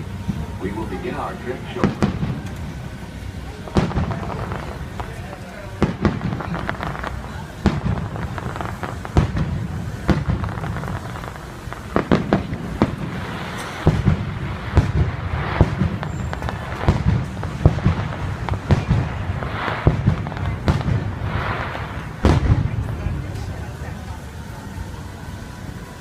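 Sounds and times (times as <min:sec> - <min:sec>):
fireworks bangs and booms: 0:00.0 - 0:25.8
fireworks crackling: 0:00.0 - 0:26.0.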